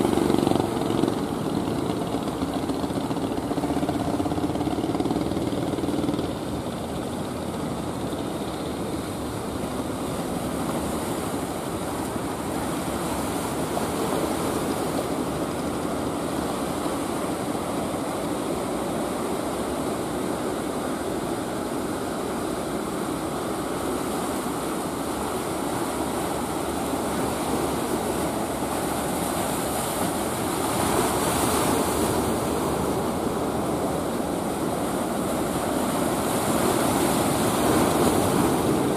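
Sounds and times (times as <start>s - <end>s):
boat engine hum: 0.0s - 38.9s
surf and waves rushing: 0.0s - 38.9s.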